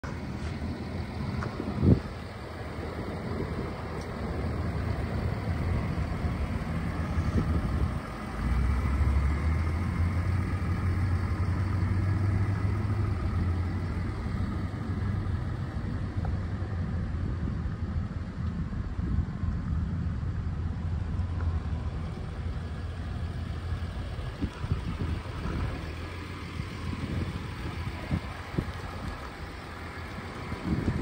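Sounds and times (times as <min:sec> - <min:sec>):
pickup engine idling: 0:00.0 - 0:31.0.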